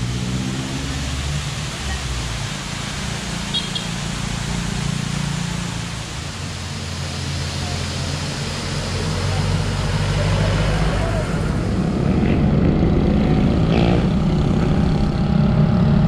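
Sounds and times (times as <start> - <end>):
vehicle engine humming: 0.0 - 16.0
waterfall rushing: 0.0 - 16.0.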